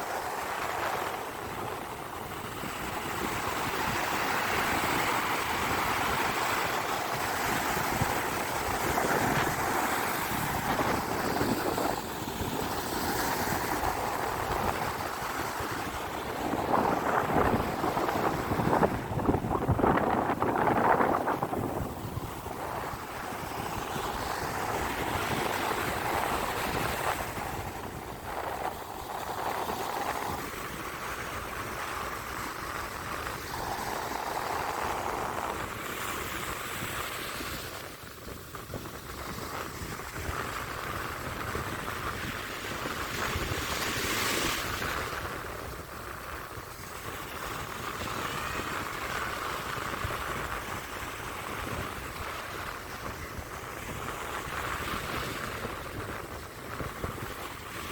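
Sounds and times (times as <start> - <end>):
surf washing up on beach: 0.0 - 57.9
wind rumbling on microphone: 0.0 - 57.9.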